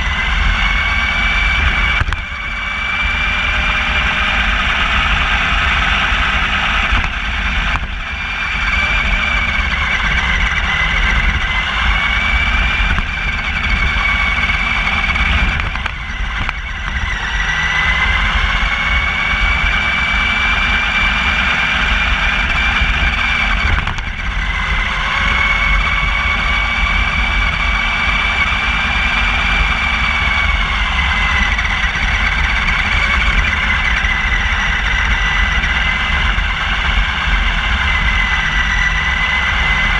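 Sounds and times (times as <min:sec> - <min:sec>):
electric motor whining: 0:00.0 - 0:39.9
tyres rumbling on pavement: 0:00.0 - 0:39.9.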